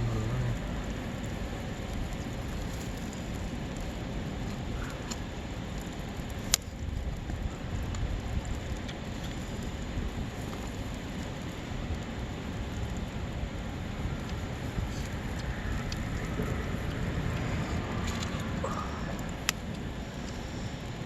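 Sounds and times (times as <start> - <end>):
campfire crackling: 0.0 - 21.0
steady hiss: 0.0 - 21.0.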